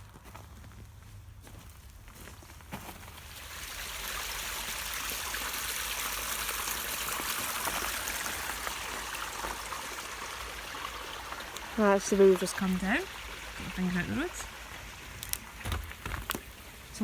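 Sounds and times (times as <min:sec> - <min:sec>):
stream water rushing: 0:03.2 - 0:17.0.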